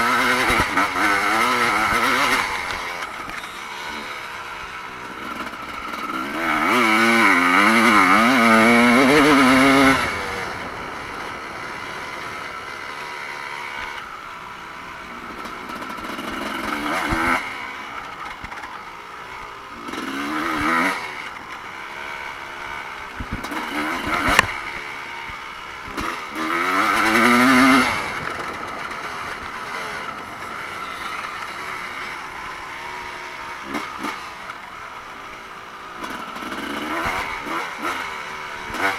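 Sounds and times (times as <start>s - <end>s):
background drone of bikes: 0.0s - 38.9s
motocross bikes racing past: 0.0s - 38.9s.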